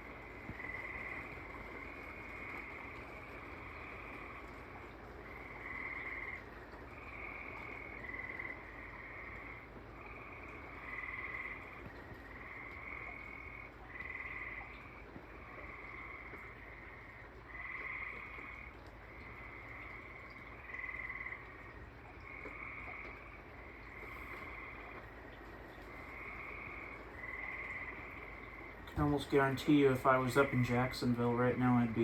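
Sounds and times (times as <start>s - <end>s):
rain hiss: 0.0s - 32.0s
tree frogs trilling: 0.0s - 32.0s.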